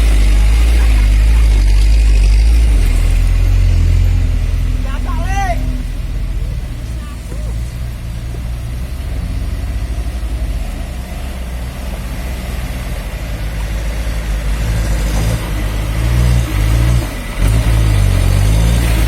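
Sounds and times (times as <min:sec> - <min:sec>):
road and wind noise: 0:00.0 - 0:19.0
vehicle engine running: 0:00.0 - 0:19.0.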